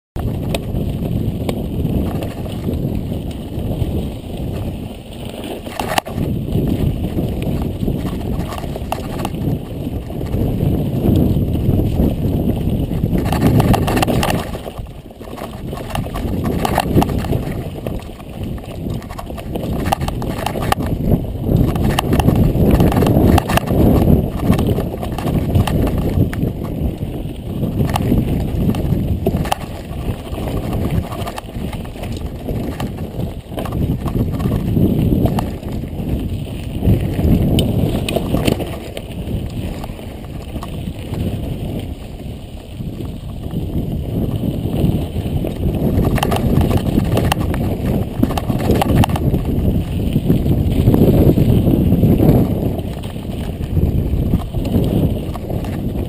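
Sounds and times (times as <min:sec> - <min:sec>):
bike rattling and knocking: 0:00.2 - 0:56.0
tyres rumbling on dirt and rock: 0:00.2 - 0:56.0.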